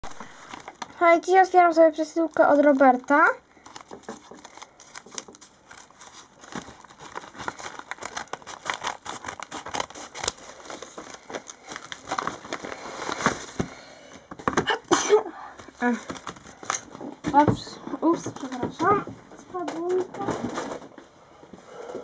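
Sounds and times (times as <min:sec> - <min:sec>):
packaging crinkling and rustling: 0:00.0 - 0:14.7, 0:15.6 - 0:17.4, 0:18.0 - 0:21.0.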